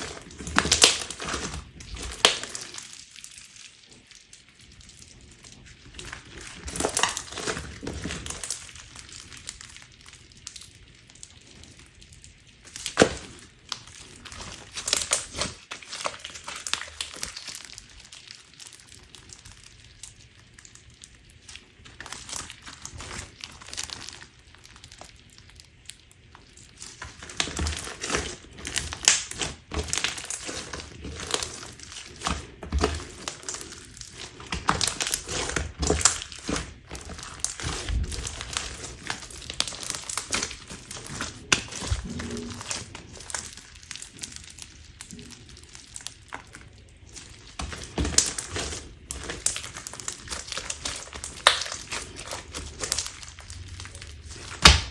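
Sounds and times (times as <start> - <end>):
slime crackling and popping: 0.0 - 54.9.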